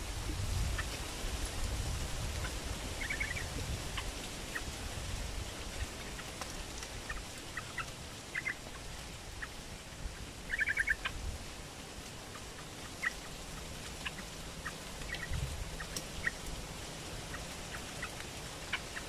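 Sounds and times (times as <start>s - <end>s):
small birds chirping: 2.4s - 4.8s, 5.4s - 19.0s.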